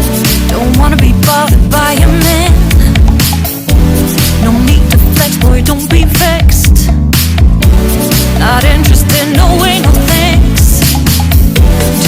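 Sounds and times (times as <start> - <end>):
pop music with electronic beat: 0.0 - 12.0.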